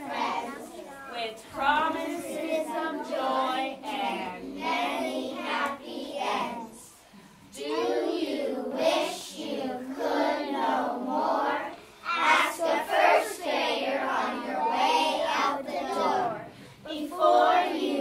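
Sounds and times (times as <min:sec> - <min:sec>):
children singing together: 0:00.0 - 0:00.9, 0:01.5 - 0:18.0.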